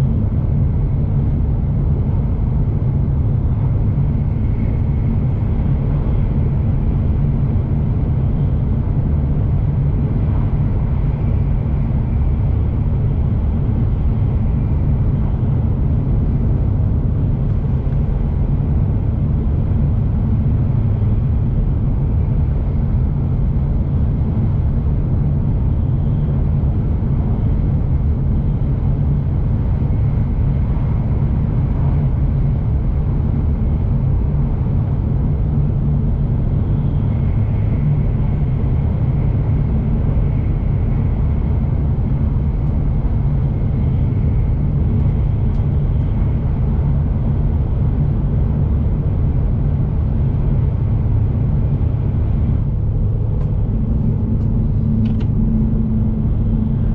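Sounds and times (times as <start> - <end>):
faint high hum: 0.0 - 56.9
train low rumble from on board: 0.0 - 56.9.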